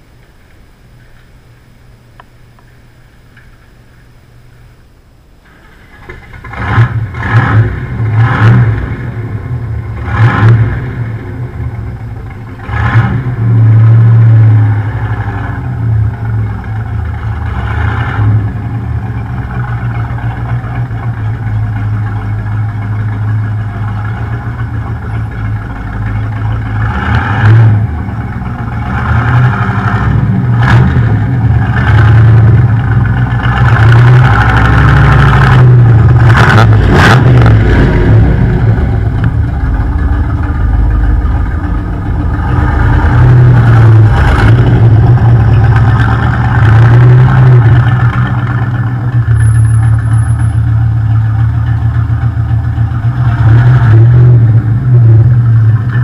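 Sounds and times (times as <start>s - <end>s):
car engine starting and revving: 5.4s - 56.0s.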